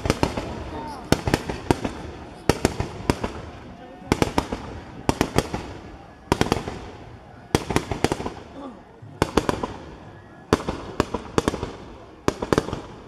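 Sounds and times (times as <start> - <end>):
firework fountains hissing: 0.0 - 13.0
fireworks popping and banging: 0.0 - 13.0.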